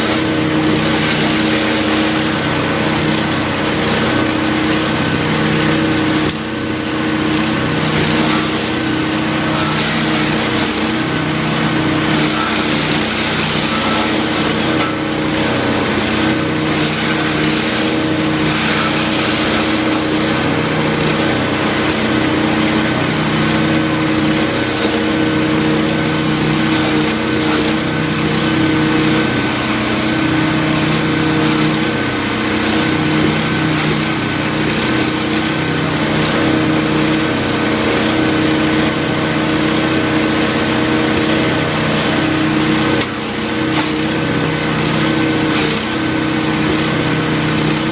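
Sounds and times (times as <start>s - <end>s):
wood chipper engine running: 0.0s - 47.9s.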